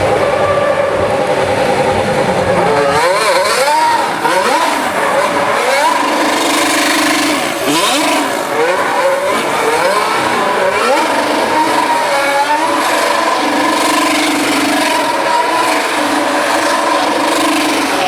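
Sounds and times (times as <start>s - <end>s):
racing car engine revving: 0.0s - 18.0s.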